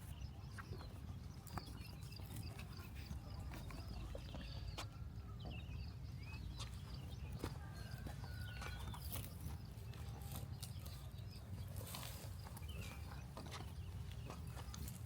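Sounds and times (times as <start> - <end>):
poultry chirping: 0.0 - 15.0.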